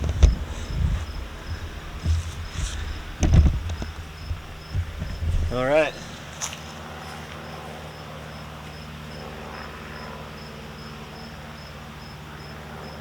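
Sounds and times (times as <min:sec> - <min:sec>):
steady low hum: 0:00.0 - 0:11.8
cricket chirping: 0:00.0 - 0:13.0.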